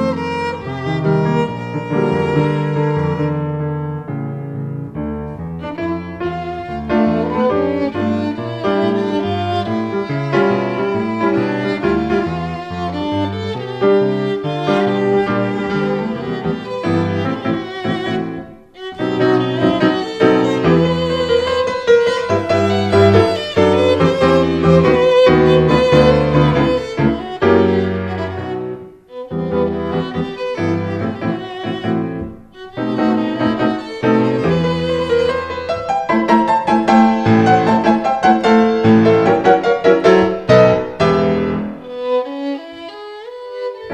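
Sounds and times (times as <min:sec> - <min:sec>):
cello: 0:00.0 - 0:43.9
piano accompaniment: 0:00.0 - 0:43.9
violin: 0:00.0 - 0:43.9.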